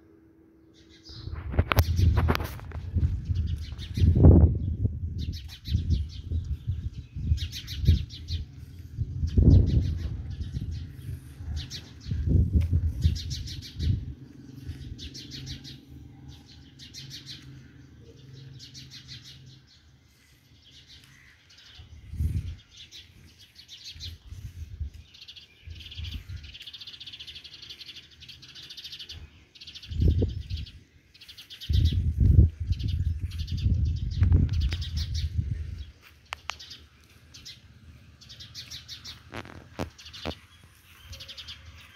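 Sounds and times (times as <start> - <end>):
birds chirping: 0.6 - 41.9.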